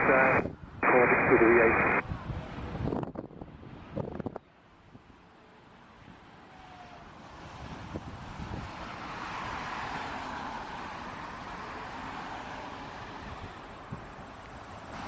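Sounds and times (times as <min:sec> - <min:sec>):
jet engines on takeoff: 0:00.0 - 0:15.0.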